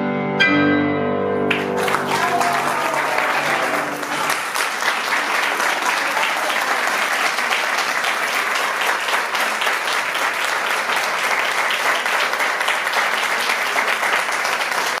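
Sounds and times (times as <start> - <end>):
audience applauding: 1.5 - 15.0.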